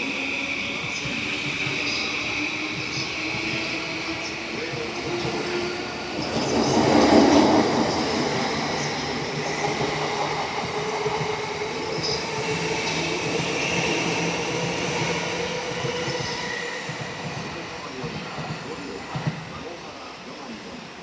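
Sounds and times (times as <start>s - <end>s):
electric train motors whining: 0.0s - 21.0s.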